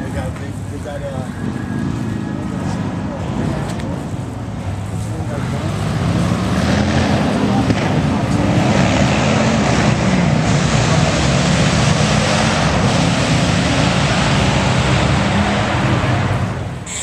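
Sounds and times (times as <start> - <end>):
car engine running loud: 0.0 - 17.0.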